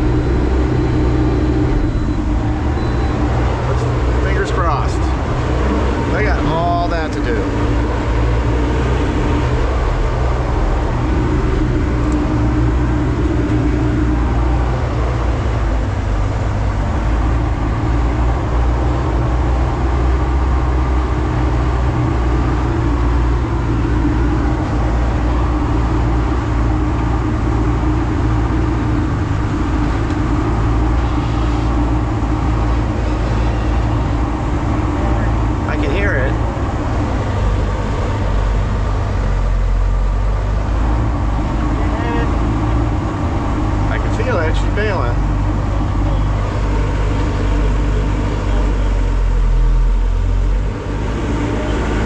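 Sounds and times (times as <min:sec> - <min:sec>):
hydraulic baler humming: 0:00.0 - 0:52.0.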